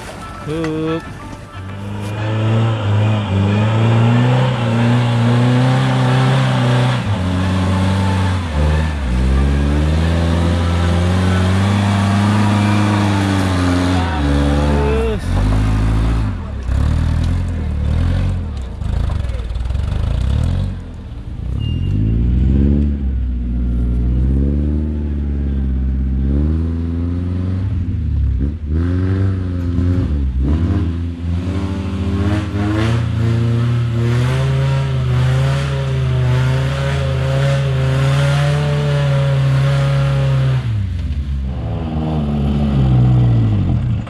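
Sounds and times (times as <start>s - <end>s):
off-road vehicle engine revving: 1.7s - 44.0s.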